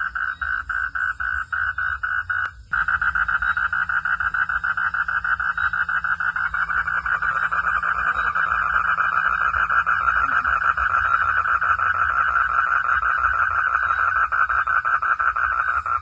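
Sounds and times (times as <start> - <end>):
frogs calling in rapid pulses: 0.0 - 16.0.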